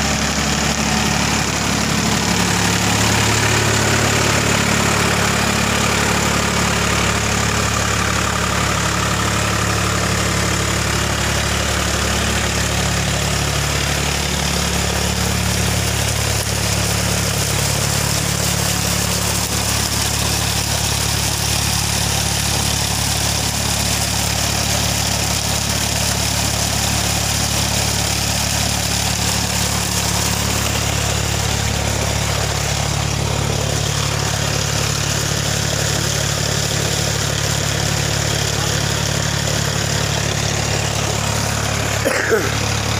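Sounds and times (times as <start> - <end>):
tractor engine droning: 0.0 - 42.9.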